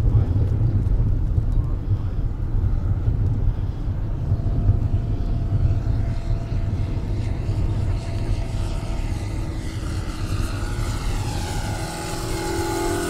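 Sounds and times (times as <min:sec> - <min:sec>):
model airplane engine drone: 0:00.0 - 0:13.0.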